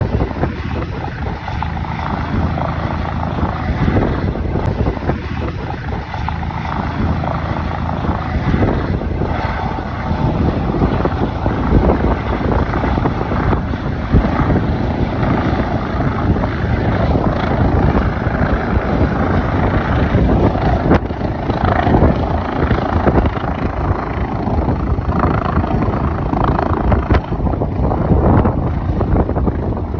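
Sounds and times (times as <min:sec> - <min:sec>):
helicopter rotors and engine drone: 0:00.0 - 0:29.9
wind buffeting microphone: 0:00.0 - 0:29.9.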